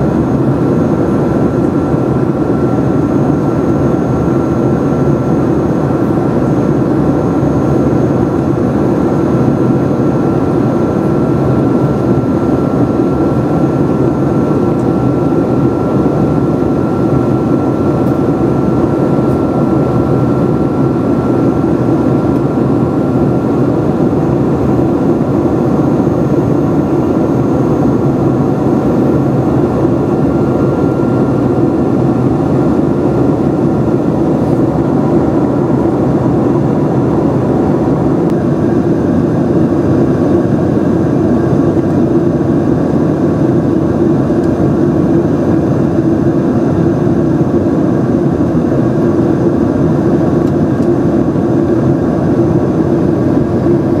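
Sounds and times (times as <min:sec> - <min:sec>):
airplane engine and airflow rush: 0:00.0 - 0:54.0
thin steady whine: 0:00.0 - 0:54.0.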